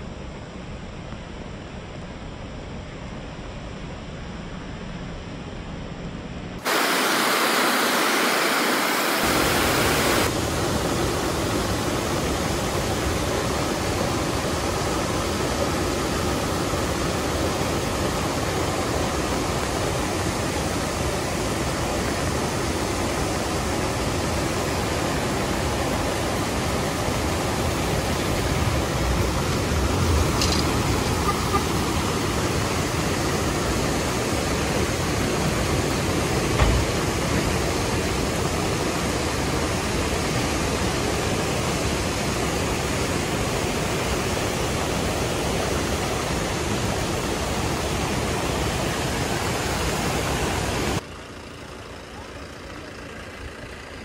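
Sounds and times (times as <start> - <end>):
heavy rain: 6.6 - 51.0
river rushing over rocks: 6.6 - 51.0.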